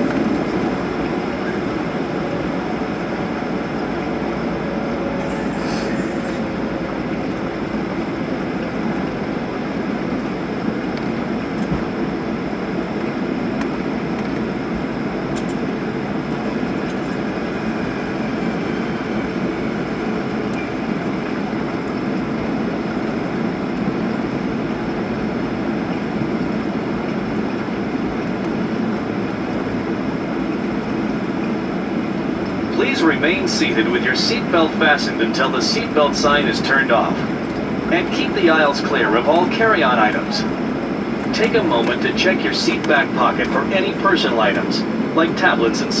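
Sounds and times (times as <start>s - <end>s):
aircraft cabin rumble and engine hum: 0.0s - 46.0s.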